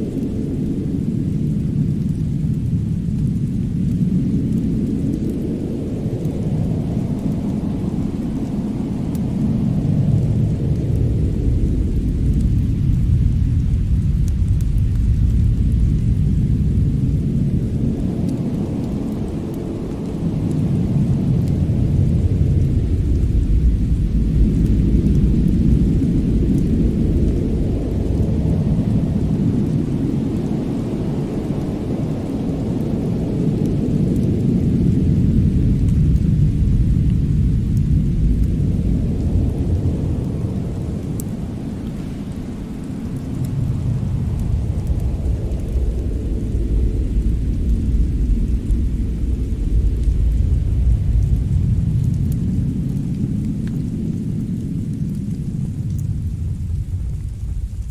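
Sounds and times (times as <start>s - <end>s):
deep wind rumble: 0.0s - 57.9s
faint fireplace crackles: 0.0s - 57.9s.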